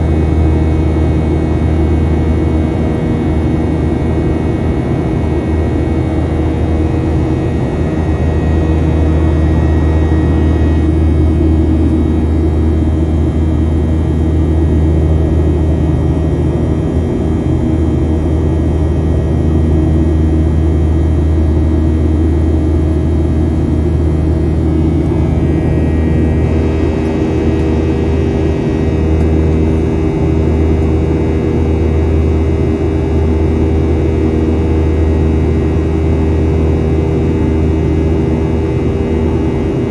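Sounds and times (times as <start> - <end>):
jet engine cabin drone: 0.0 - 39.9
steady engine tones: 0.0 - 39.9.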